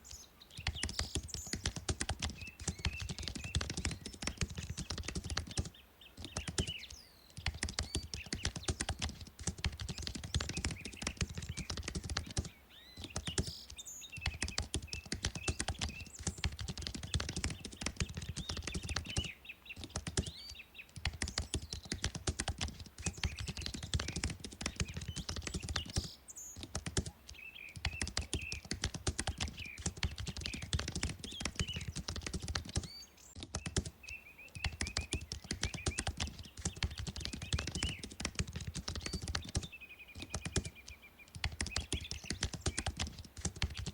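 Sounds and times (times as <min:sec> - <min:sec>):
typing on keyboard: 0:00.6 - 0:43.9.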